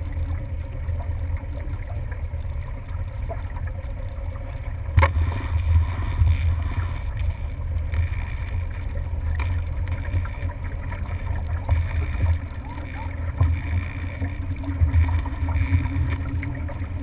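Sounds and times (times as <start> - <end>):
motorboat engine rumble: 0.0 - 17.0.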